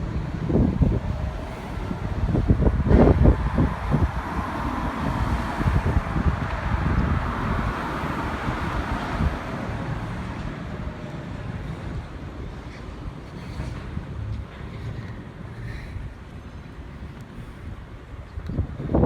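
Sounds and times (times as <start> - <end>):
car passing: 0.0 - 17.8
road traffic: 0.0 - 19.0
wind buffeting microphone: 0.0 - 19.0.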